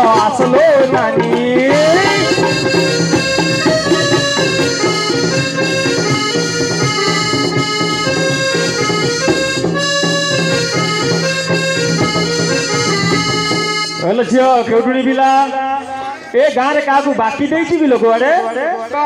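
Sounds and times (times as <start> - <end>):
drum beats: 0.0 - 18.5
reed keyboard melody: 0.0 - 18.7.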